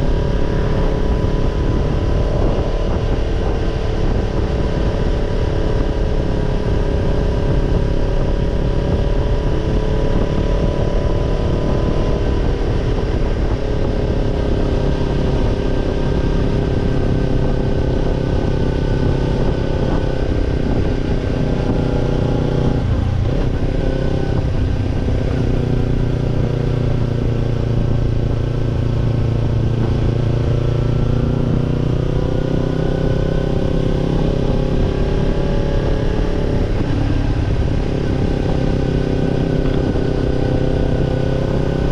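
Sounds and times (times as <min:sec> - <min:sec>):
motorcycle exhaust note: 0:00.0 - 0:41.9.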